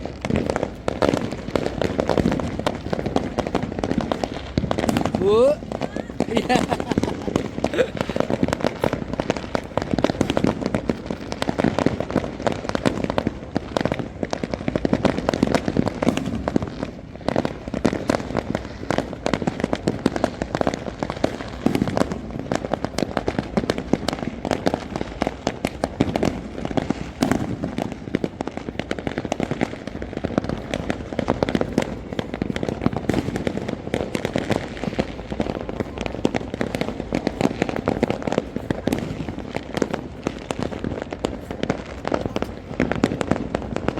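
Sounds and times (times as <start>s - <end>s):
fireworks bangs and pops: 0.0s - 43.9s.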